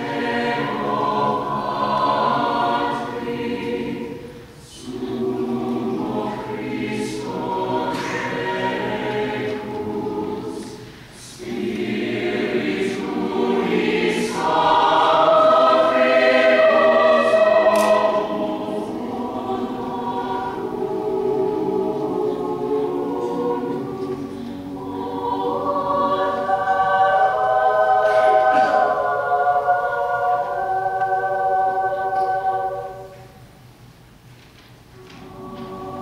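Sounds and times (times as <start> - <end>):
mixed choir singing: 0.0 - 33.5, 35.0 - 36.0.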